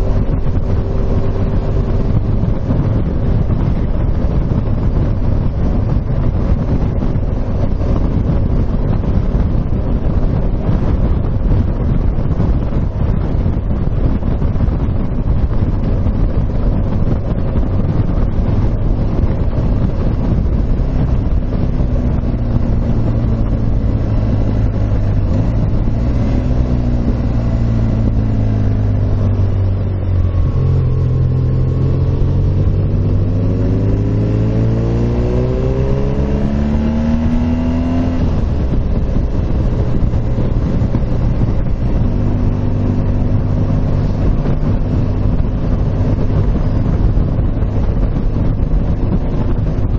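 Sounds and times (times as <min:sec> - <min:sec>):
motorcycle engine running: 0:00.0 - 0:49.9
wind noise on microphone: 0:00.0 - 0:49.9.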